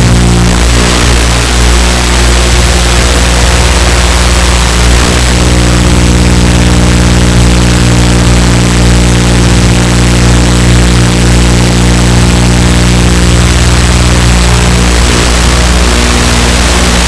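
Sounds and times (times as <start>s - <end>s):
model aircraft motor humming: 0.0s - 17.0s.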